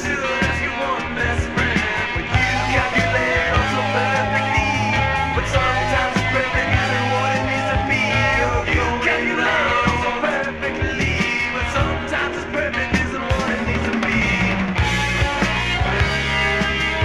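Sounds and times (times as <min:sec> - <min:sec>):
hard rock band playing: 0:00.0 - 0:17.0.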